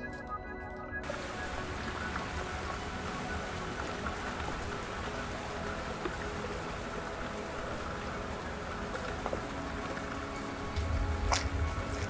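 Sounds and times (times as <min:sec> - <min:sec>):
rain falling on lake: 0:01.0 - 0:12.0.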